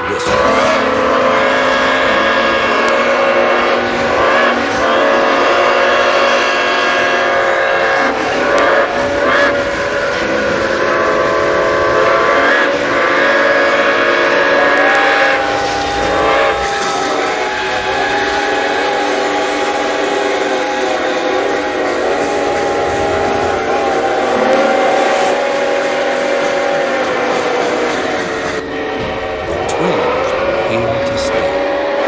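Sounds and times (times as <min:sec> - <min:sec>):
steam locomotive whistles blowing: 0:00.0 - 0:32.0.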